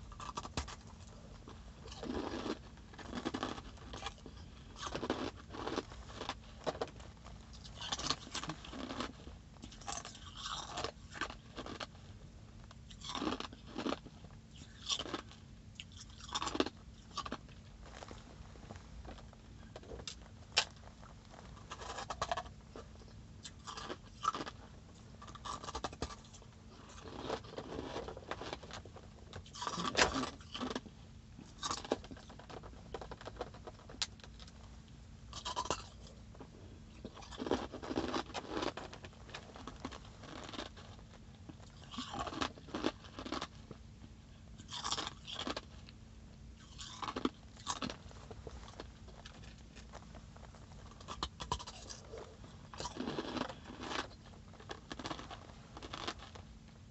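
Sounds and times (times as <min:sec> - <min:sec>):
ice being chewed: 0:00.0 - 0:12.1, 0:12.7 - 0:34.7, 0:35.3 - 0:43.8, 0:44.6 - 0:46.0, 0:46.6 - 0:56.5
faint low hum: 0:00.0 - 0:56.9.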